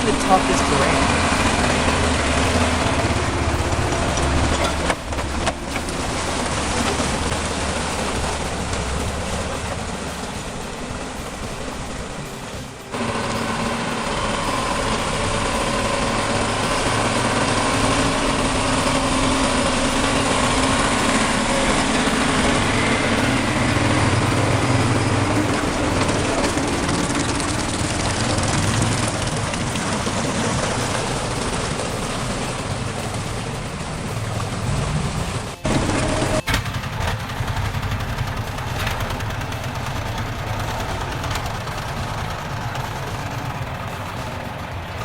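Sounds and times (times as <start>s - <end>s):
heavy vehicle engine running: 0.0s - 45.0s.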